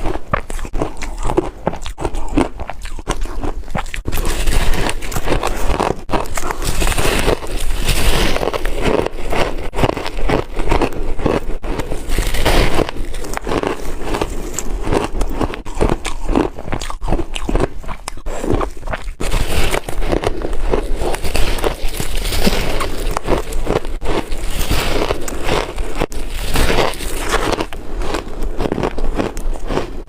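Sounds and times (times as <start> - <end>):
ice crunching between teeth: 0.0 - 30.0.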